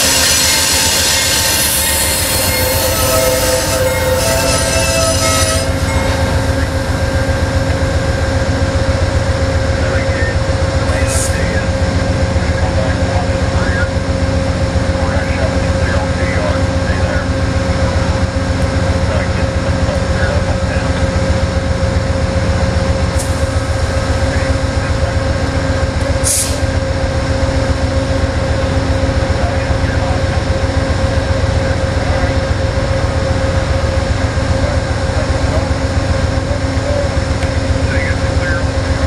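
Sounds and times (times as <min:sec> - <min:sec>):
diesel locomotive running: 0:00.0 - 0:39.0.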